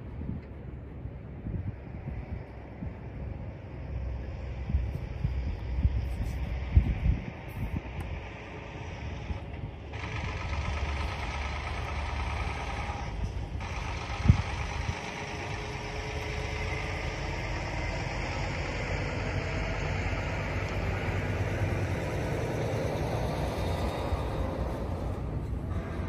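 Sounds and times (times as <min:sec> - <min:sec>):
diesel engine idling: 0:00.7 - 0:26.0.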